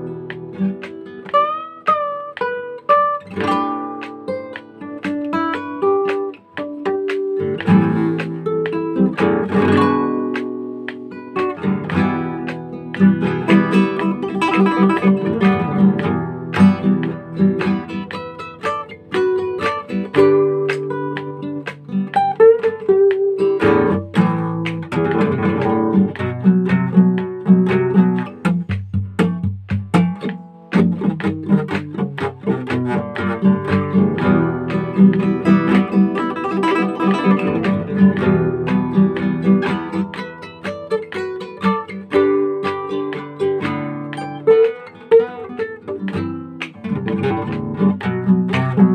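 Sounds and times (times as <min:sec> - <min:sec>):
acoustic guitar playing: 0:00.0 - 0:48.9.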